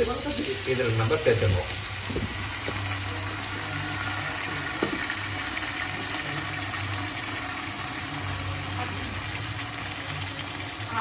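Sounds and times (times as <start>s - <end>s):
onion masala sizzling in oil: 0.0s - 11.0s.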